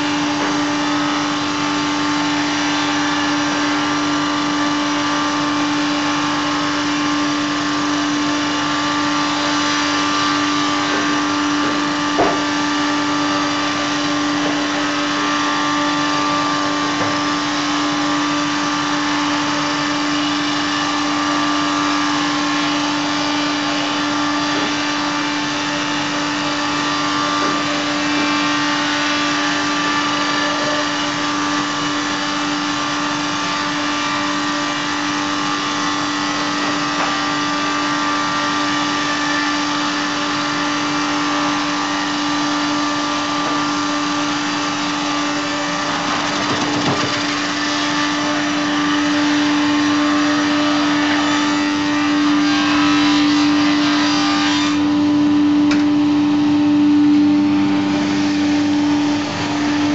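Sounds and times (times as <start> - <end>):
sawing machine drone: 0.0 - 59.9.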